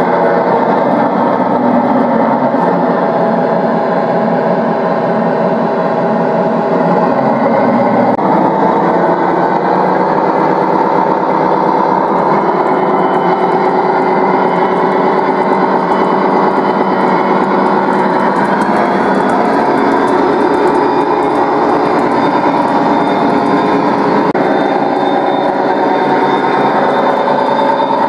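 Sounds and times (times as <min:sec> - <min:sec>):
model train rolling along track: 0:00.0 - 0:28.0.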